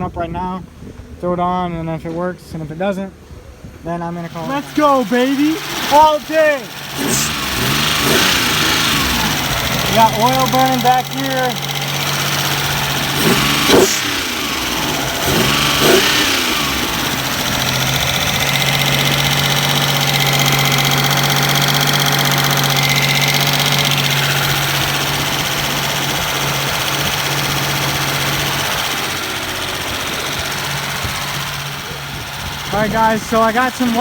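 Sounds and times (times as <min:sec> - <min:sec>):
engine throttle blips: 0:03.4 - 0:34.0
loud car engine running: 0:04.1 - 0:34.0.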